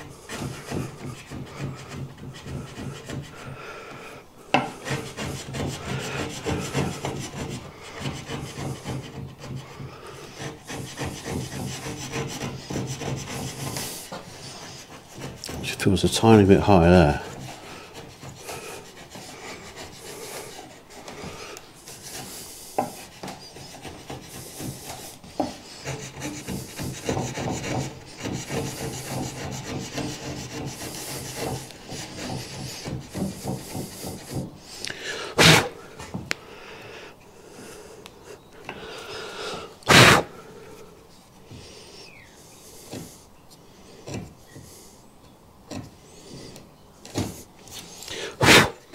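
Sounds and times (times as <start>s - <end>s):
chisel scraping wood: 0.0s - 36.4s, 38.6s - 45.0s, 45.6s - 48.9s.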